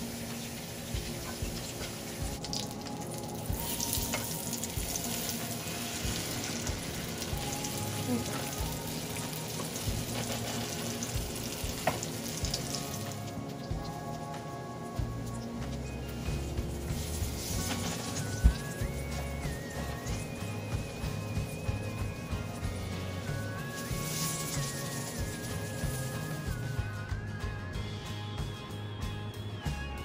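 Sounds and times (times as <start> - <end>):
omelette sizzling in hot oil: 0.0 - 27.1.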